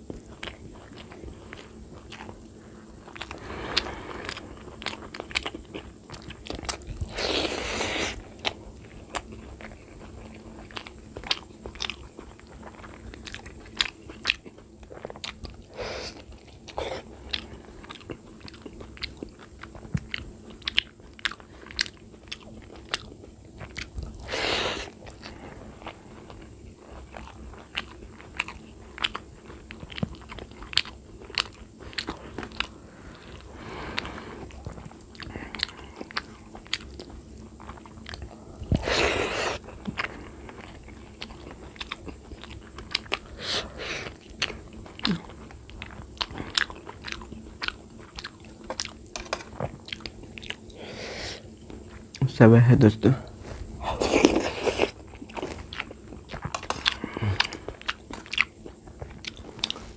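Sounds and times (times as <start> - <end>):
man chewing food: 0.0 - 59.9.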